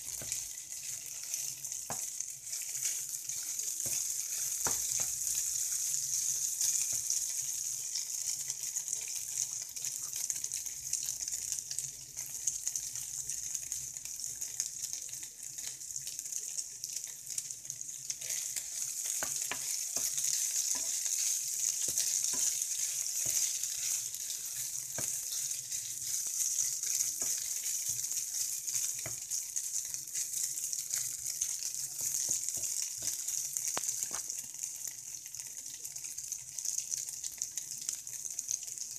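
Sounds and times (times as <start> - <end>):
spatula stirring in pan: 0.0 - 34.4
chicken sizzling in oil: 0.0 - 38.9.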